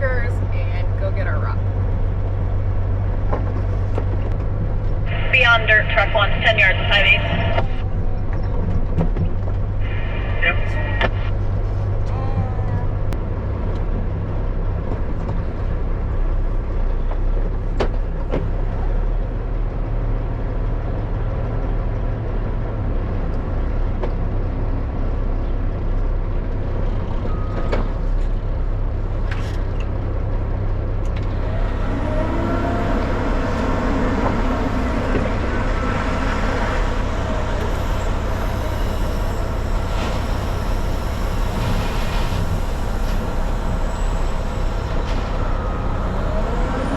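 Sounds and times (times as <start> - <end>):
diesel engine idling: 0.0 - 46.9
loud rumbling engine: 0.0 - 46.9.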